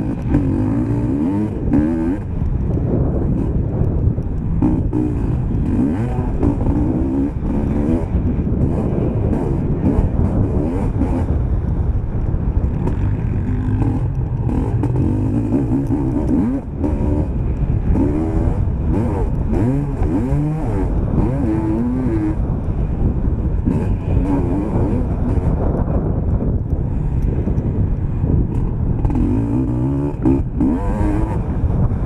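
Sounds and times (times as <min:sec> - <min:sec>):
motocross bike engine revving: 0:00.0 - 0:11.6, 0:12.5 - 0:26.0, 0:28.5 - 0:31.8.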